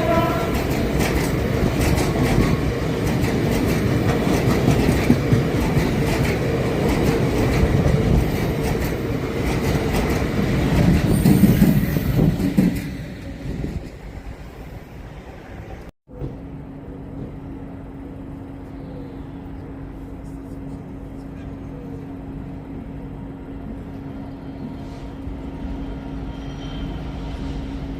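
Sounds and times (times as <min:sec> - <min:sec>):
train wheels rumbling on rails: 0:00.0 - 0:27.9.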